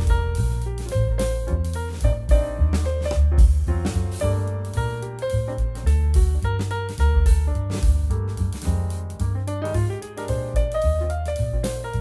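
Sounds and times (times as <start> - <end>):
piano background music with beat: 0.0 - 12.0.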